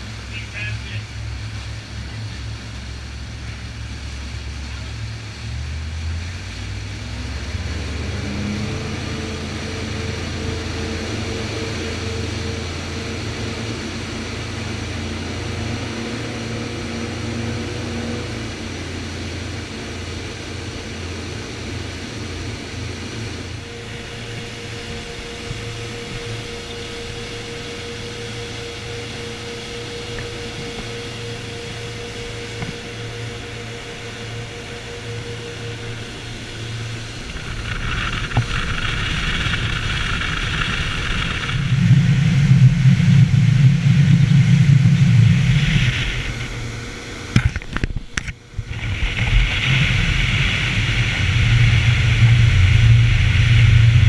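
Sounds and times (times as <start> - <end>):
motorboat engine droning: 0.0 - 54.0
rushing water: 0.0 - 54.0
wind: 0.0 - 54.0.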